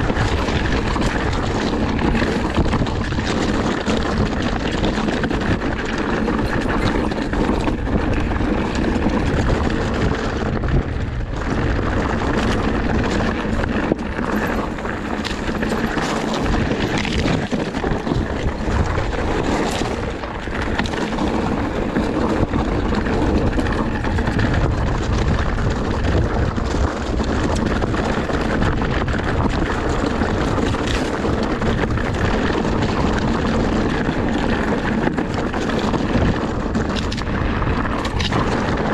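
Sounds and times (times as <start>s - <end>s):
bike rattles and knocks: 0.0s - 38.9s
wind and tyre noise: 0.0s - 38.9s.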